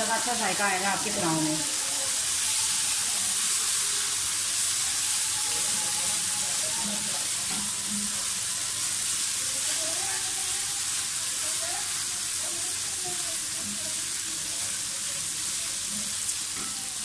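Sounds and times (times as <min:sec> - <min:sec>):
onions sizzling in a pan: 0:00.0 - 0:17.0.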